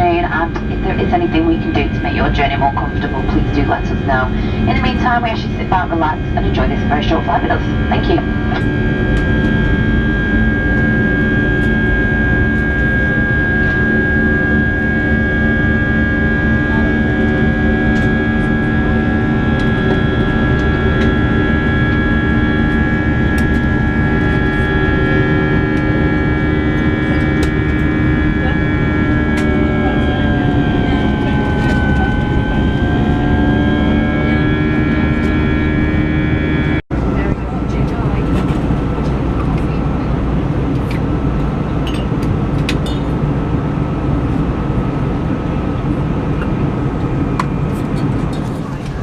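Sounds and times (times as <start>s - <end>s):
rush of air and engine drone: 0.0s - 49.0s
steady whining tones: 0.0s - 49.0s.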